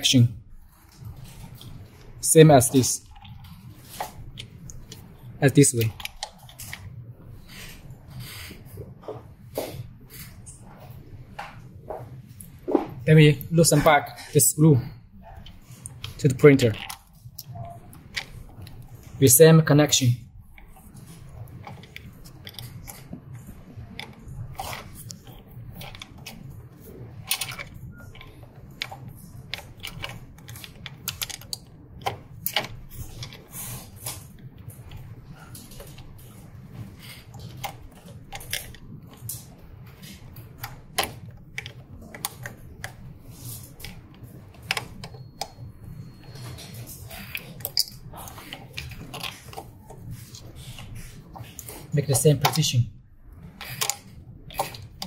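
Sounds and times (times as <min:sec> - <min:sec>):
cable rustling: 0:00.5 - 0:55.0.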